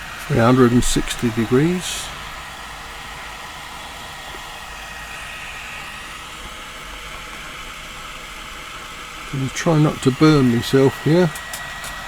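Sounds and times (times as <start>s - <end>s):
hot air tool hissing: 0.0s - 12.0s.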